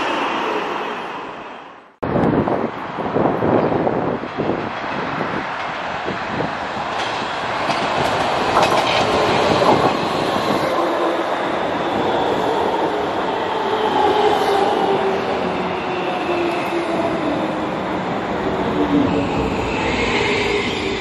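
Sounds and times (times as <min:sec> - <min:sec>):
metro train wheels on rails: 0:00.0 - 0:21.0.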